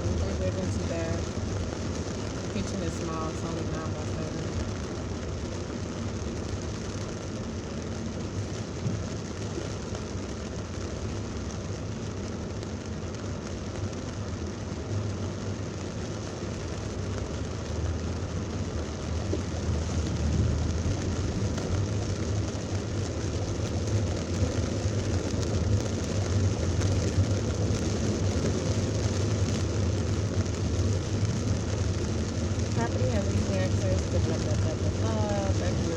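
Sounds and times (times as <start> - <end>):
engine and tyre noise: 0.0 - 35.9
heavy rain on a car: 0.0 - 35.9.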